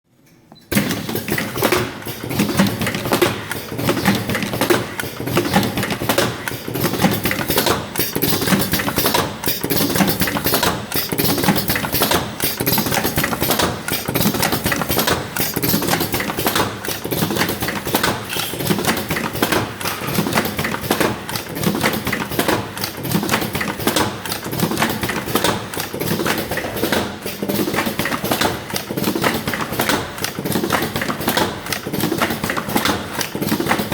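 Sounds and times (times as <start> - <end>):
cartoning machine clattering: 0.6 - 33.9.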